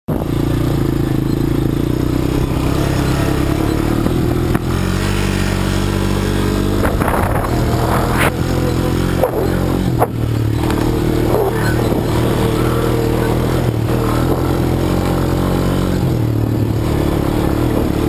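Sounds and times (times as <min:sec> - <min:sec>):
quad bike engine running: 0:00.1 - 0:18.0.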